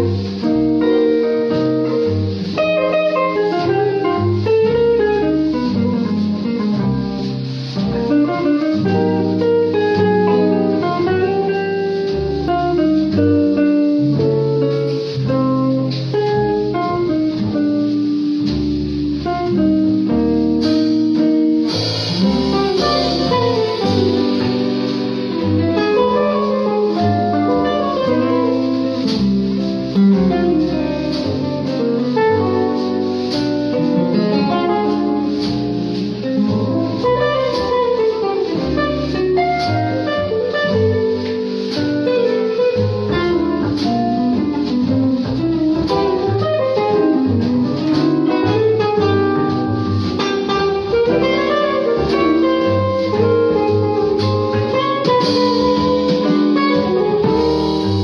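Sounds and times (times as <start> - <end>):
jazz guitar solo: 0.0 - 58.0
light drums: 0.0 - 58.0
plucked upright bass: 0.0 - 58.0.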